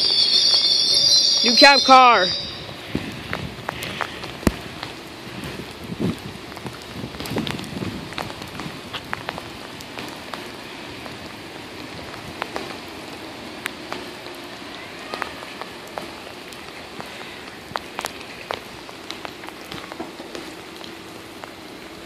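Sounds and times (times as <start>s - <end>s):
heavy rain hissing: 0.0s - 22.0s
raindrops ticking near microphone: 0.0s - 22.0s.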